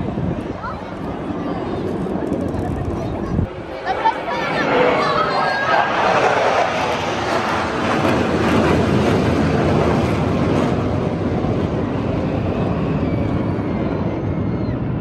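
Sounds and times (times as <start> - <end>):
military aircraft engine: 0.0 - 15.0.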